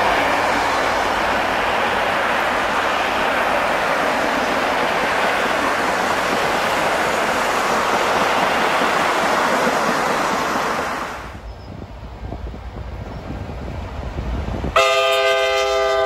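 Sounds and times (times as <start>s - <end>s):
train wheels rushing on track: 0.0s - 16.0s.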